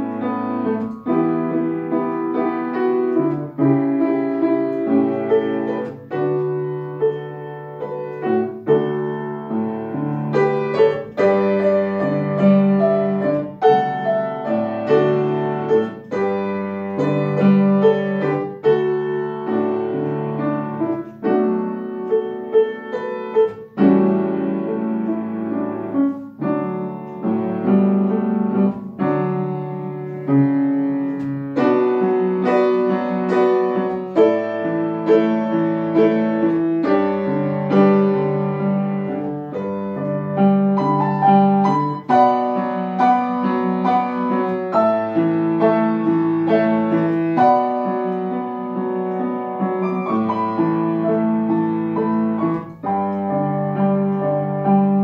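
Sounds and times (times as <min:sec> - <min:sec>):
solo piano melody: 0:00.0 - 0:55.0.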